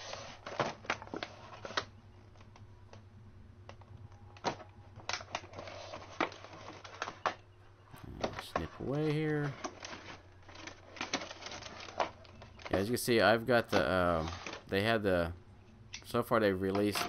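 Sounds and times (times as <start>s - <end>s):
plastic packaging clicking and crinkling: 0.0s - 7.4s, 8.1s - 14.7s.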